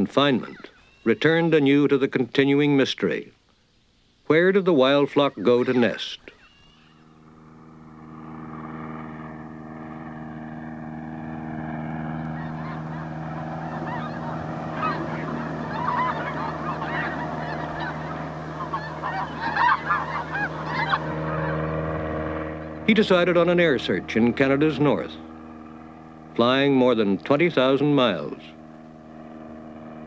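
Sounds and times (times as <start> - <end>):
light aircraft engine droning: 0.0 - 30.0
birds honking: 0.4 - 1.7, 4.9 - 29.9.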